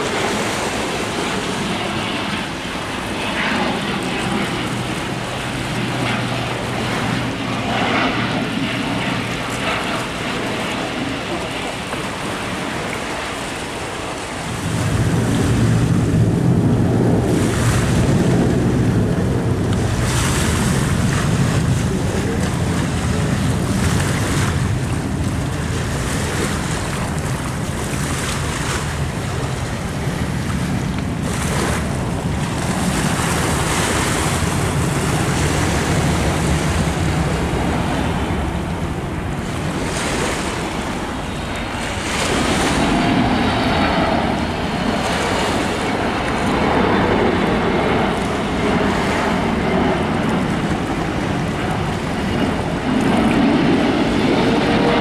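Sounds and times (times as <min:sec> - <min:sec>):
jet engine whine: 0:00.0 - 0:55.0
jet engines rumbling: 0:00.0 - 0:55.0
wind buffeting microphone: 0:00.0 - 0:55.0.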